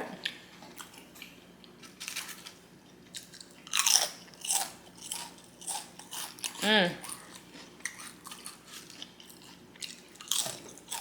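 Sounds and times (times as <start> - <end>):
chewing and crunching food: 0.2 - 11.0.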